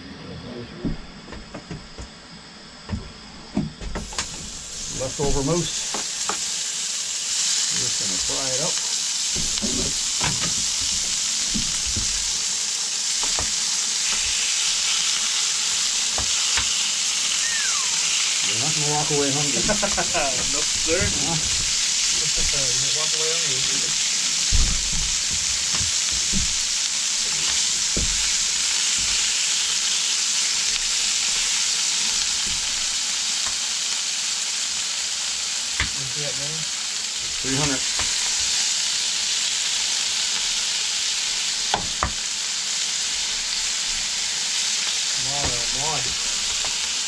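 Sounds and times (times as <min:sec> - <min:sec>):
meat sizzling in a skillet: 0:04.0 - 0:47.0.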